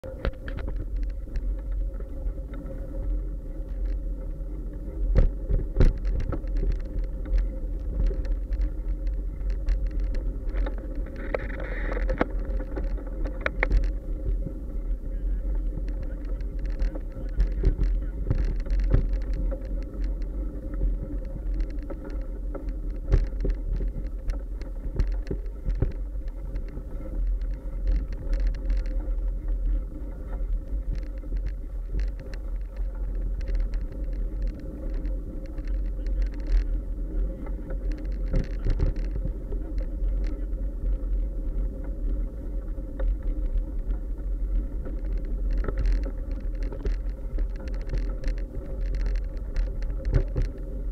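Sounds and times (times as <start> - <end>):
bicycle tyres rumbling on dirt: 0.0 - 50.9
bike rattling over bumps: 0.0 - 50.9
wind: 0.0 - 50.9.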